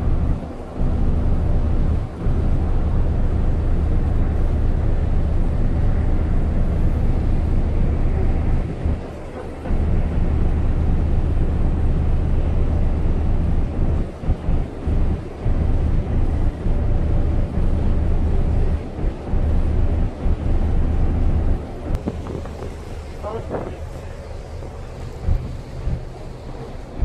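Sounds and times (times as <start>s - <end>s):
boat engine rumble: 0.0s - 27.0s
wind buffeting microphone: 0.0s - 27.0s.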